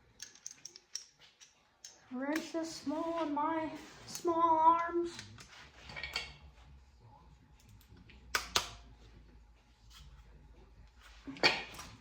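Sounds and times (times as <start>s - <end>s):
faint low hum: 1.6s - 12.0s.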